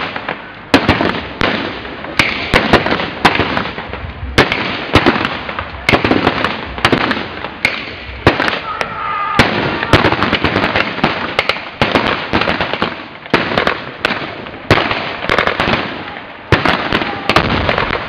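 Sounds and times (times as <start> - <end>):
loud bangs: 0.0 - 18.0.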